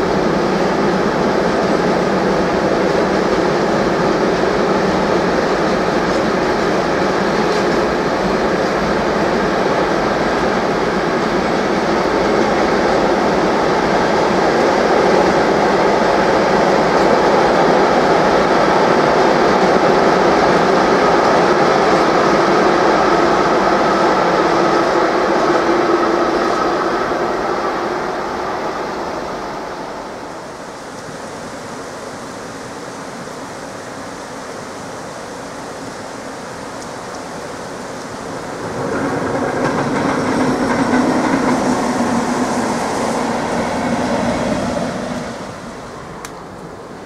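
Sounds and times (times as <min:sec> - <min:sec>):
freight train rumbling by: 0:00.0 - 0:47.0
locomotive train running past: 0:00.0 - 0:47.0.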